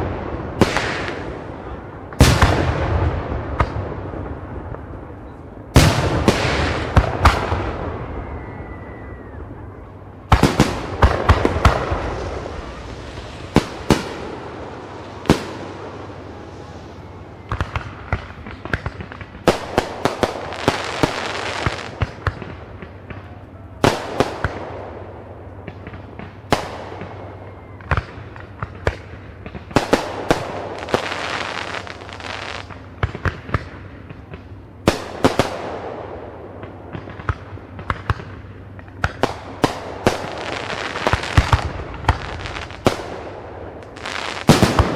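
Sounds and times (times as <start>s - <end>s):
fireworks crackling fizz: 0.0s - 35.6s, 36.3s - 44.9s
fireworks bangs: 0.0s - 44.9s.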